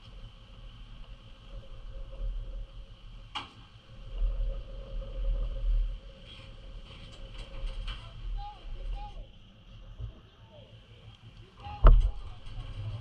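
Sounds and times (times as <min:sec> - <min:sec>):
faint steady hum: 0:00.0 - 0:13.0
low uneven rumble: 0:00.0 - 0:13.0.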